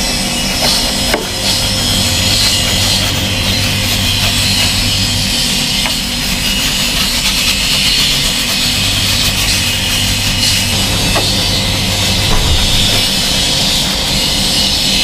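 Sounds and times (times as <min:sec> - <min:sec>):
pressure washer running: 0:00.6 - 0:15.0.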